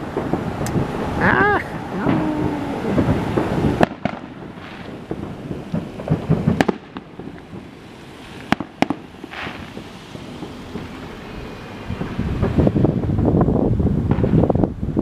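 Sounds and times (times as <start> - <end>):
firework hiss: 0.0 - 14.6
firework booms and cracks: 0.0 - 14.8.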